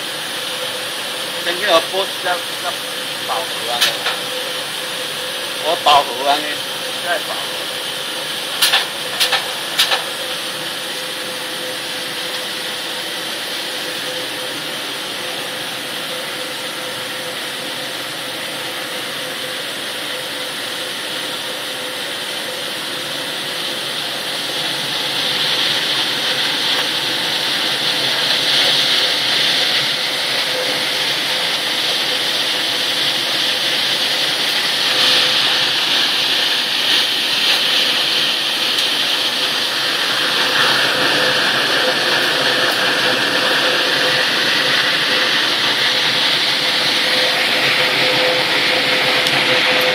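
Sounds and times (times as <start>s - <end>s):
processing line running: 0.0s - 49.9s.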